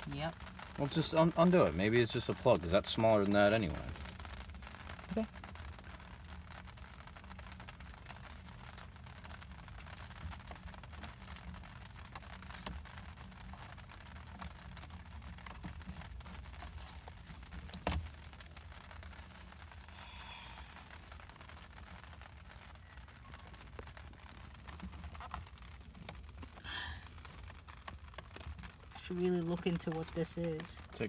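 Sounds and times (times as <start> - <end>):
small clicks and rattles: 0.0 - 31.0.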